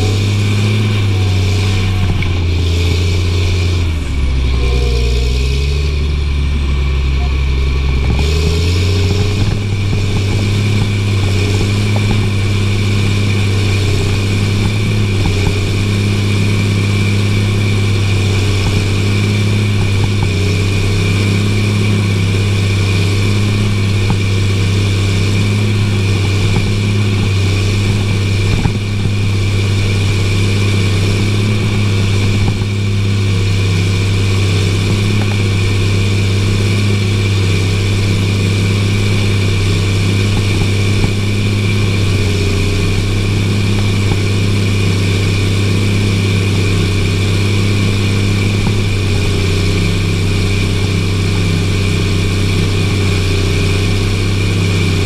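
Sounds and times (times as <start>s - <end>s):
tractor diesel engine drone: 0.0s - 55.0s.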